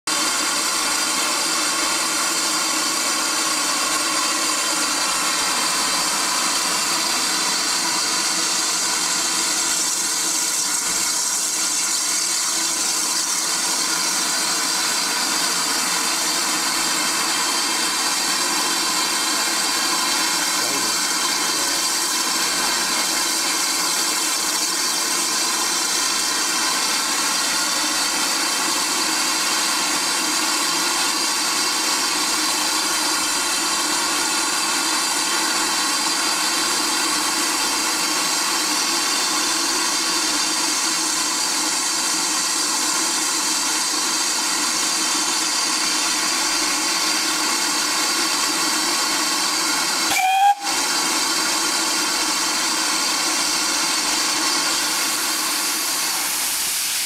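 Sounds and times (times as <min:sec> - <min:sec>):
steam hissing: 0:00.1 - 0:57.0.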